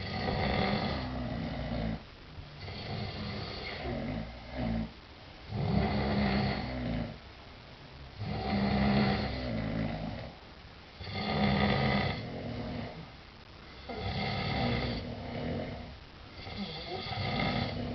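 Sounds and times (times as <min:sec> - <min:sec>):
men snoring: 0:00.0 - 0:02.0, 0:02.6 - 0:07.2, 0:08.2 - 0:10.3, 0:11.0 - 0:13.0, 0:13.8 - 0:17.9.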